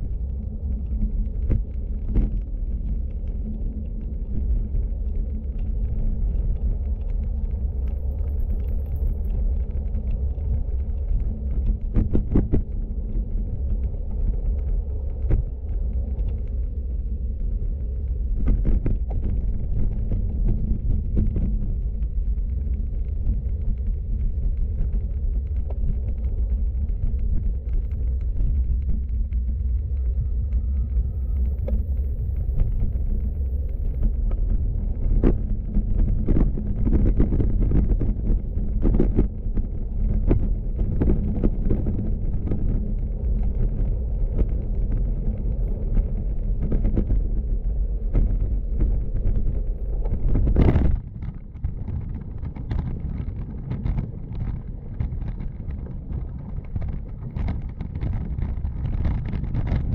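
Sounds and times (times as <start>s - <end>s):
bike tyres rumbling on asphalt: 0.0s - 59.9s.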